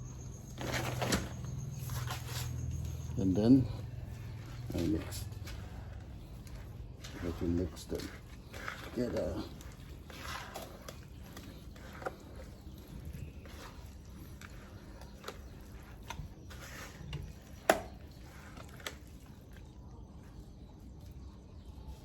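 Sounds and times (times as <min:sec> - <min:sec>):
wet food squelching by hand: 0:01.6 - 0:22.0.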